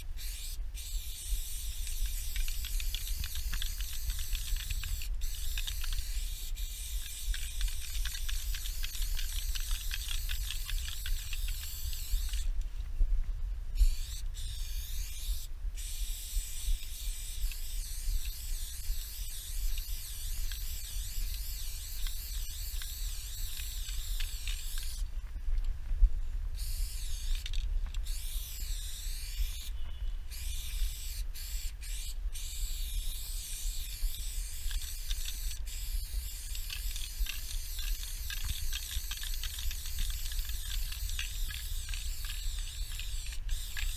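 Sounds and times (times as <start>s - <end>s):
spray paint can hissing: 0.0s - 12.5s, 13.8s - 25.0s, 26.6s - 43.9s.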